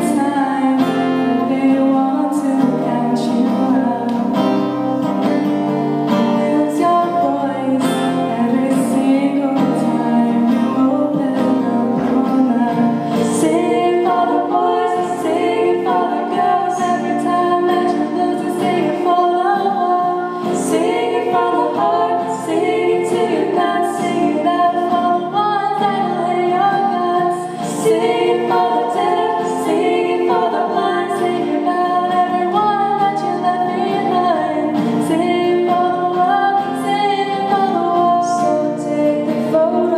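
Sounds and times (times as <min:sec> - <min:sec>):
woman singing: 0:00.0 - 0:04.8, 0:06.1 - 0:39.9
acoustic guitar: 0:00.0 - 0:39.9.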